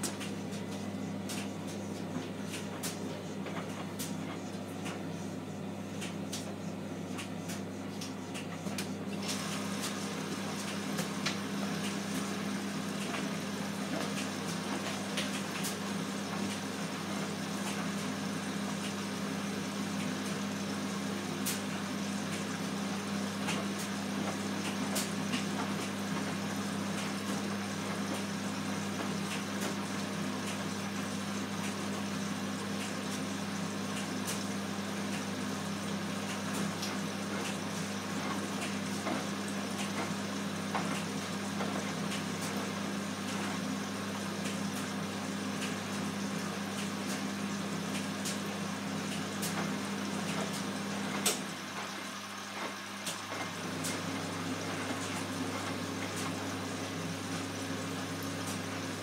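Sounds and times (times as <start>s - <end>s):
washing machine hum: 0.0s - 59.0s.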